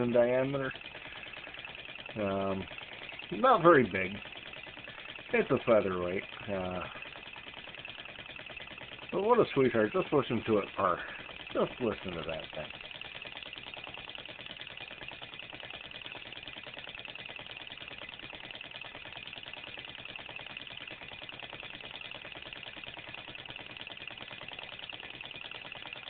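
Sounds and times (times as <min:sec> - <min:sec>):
small engine ticking purr: 0:00.0 - 0:26.0.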